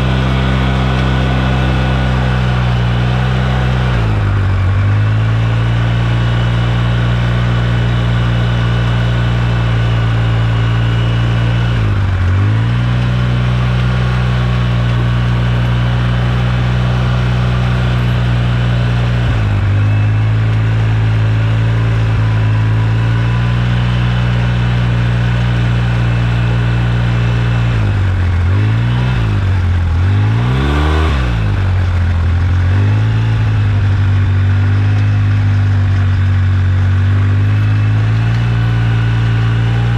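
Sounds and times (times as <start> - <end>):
twin-cylinder engine running: 0.0 - 39.9.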